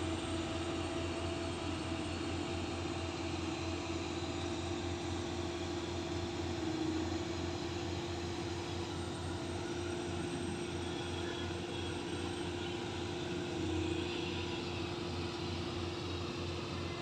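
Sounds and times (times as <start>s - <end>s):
pump machine drone: 0.0s - 17.0s.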